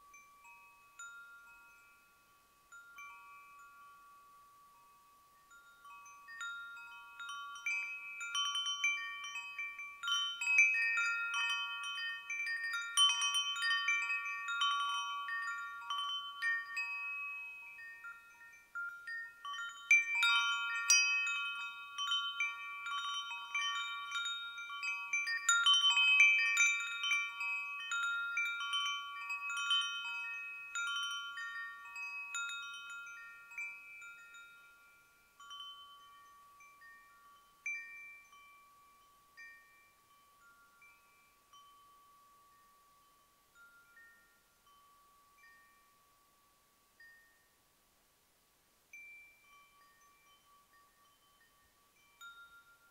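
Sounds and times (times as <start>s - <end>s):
wind chimes ringing: 0.0s - 47.7s, 48.9s - 52.9s.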